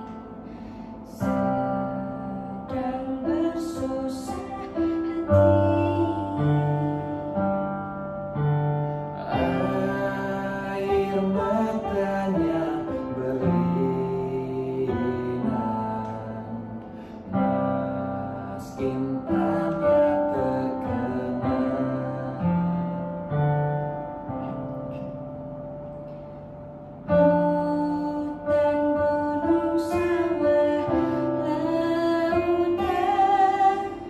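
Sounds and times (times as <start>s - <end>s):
person singing: 0.0s - 8.4s, 9.0s - 23.7s, 27.1s - 34.0s
electronic keyboard chords: 0.0s - 34.0s.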